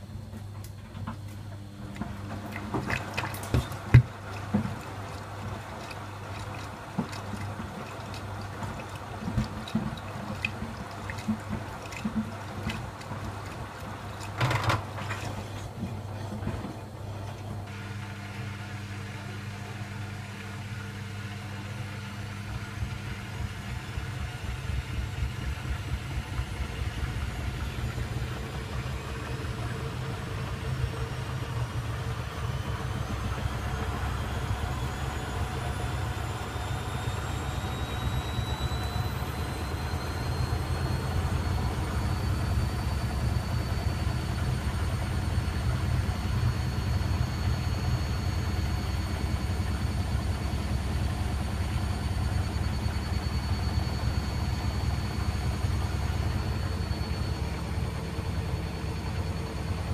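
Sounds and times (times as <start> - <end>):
washing machine drum spinning up: 0.0 - 59.9.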